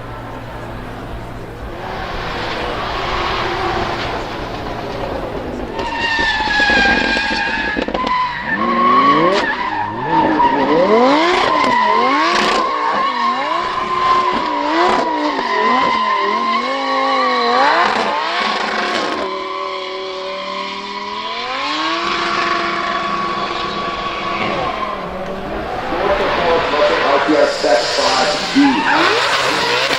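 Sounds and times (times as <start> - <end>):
car engine revving hard: 0.0 - 29.9
tyre screech: 1.7 - 29.9.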